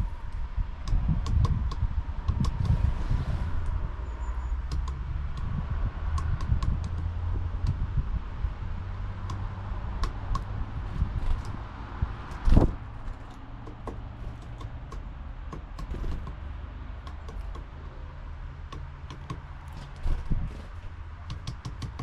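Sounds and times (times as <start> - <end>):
steady low rumble: 0.0 - 21.4.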